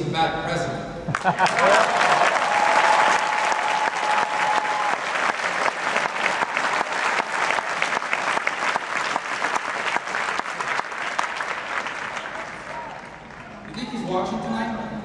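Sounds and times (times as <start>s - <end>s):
crowd applauding: 1.1s - 14.1s.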